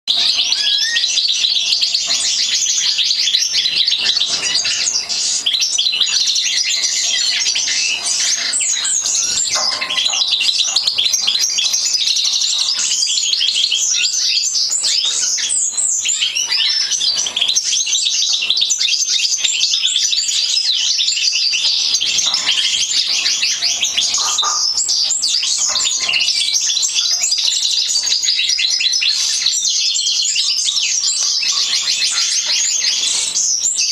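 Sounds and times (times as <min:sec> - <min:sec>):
finches twittering song: 0:00.1 - 0:33.9.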